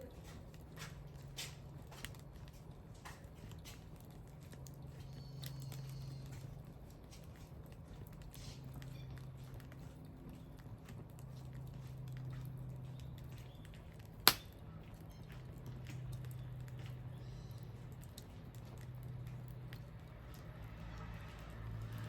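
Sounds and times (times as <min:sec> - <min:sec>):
wood bonfire crackling: 0:00.0 - 0:22.0.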